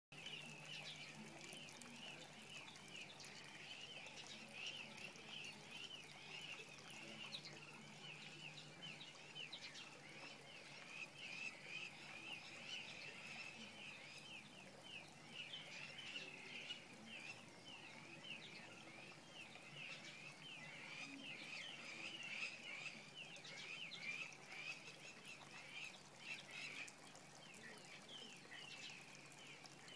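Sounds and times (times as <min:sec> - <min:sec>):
birds chirping: 0:00.1 - 0:29.9.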